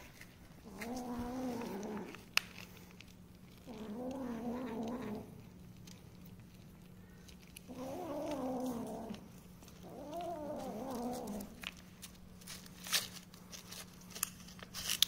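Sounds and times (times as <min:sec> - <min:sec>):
sharp clicks and rustles: 0:00.0 - 0:15.0.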